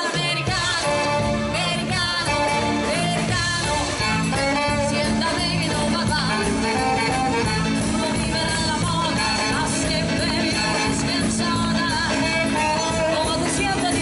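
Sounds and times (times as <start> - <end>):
live band playing dance song: 0.0 - 14.0.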